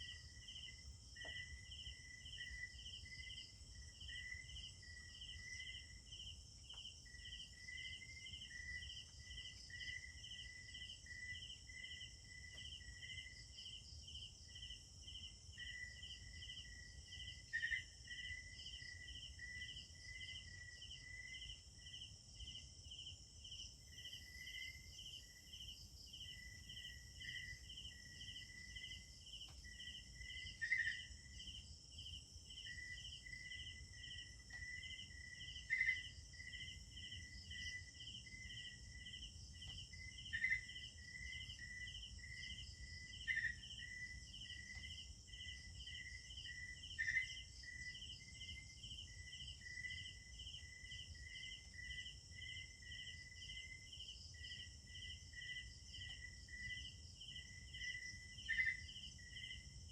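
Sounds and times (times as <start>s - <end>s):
crickets pulsing chirp: 0.0s - 59.9s
thin steady insect trill: 0.0s - 59.9s.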